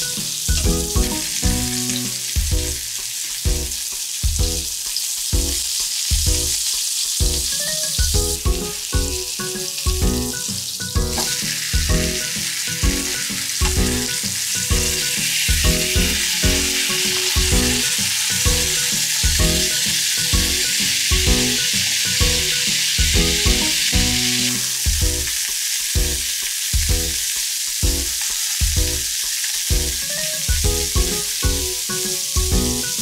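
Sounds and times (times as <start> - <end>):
background music with steady beat: 0.0 - 33.0
food sizzling in hot oil: 0.0 - 33.0.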